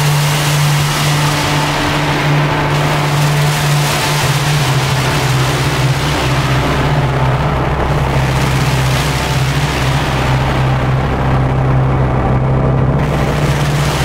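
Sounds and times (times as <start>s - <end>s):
harsh wall of noise: 0.0s - 14.0s
low droning bass note: 0.0s - 14.0s.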